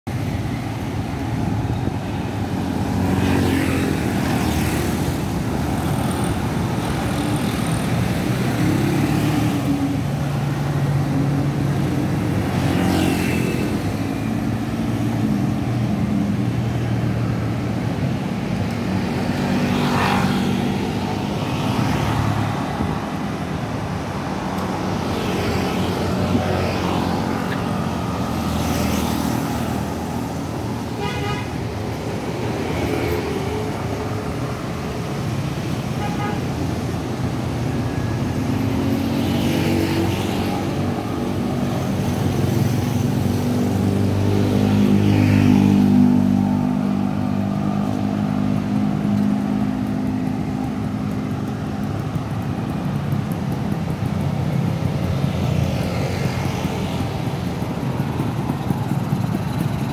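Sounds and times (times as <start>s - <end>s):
scooters and cars driving past: 0.1s - 59.9s.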